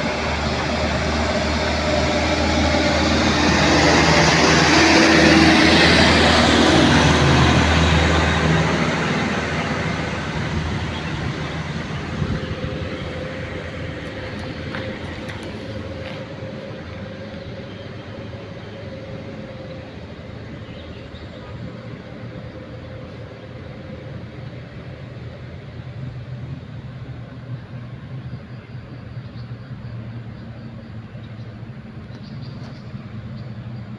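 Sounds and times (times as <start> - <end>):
steady whine: 0.0 - 31.2
truck diesel engine passing: 0.0 - 33.9.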